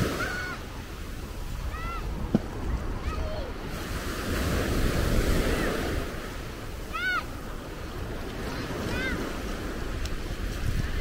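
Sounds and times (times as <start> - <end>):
small waves washing onto beach: 0.0 - 11.0
wind on microphone: 0.0 - 11.0.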